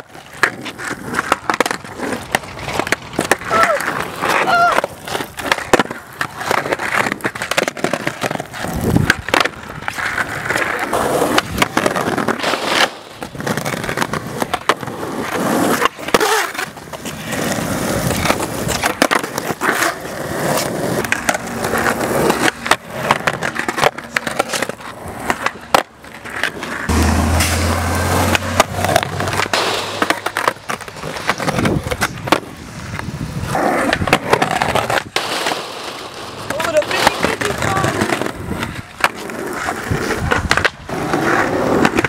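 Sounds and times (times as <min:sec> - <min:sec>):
skateboard deck clacking on ground: 0:00.0 - 0:27.6, 0:28.2 - 0:42.0
skateboard wheels rolling on concrete: 0:00.0 - 0:42.0.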